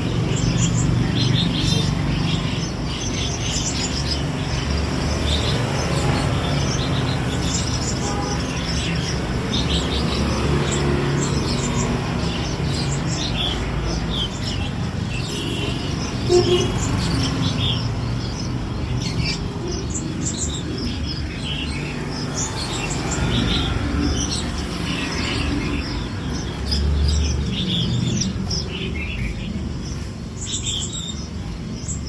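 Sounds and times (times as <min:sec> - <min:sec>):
songbirds chirping and singing: 0:00.0 - 0:32.0.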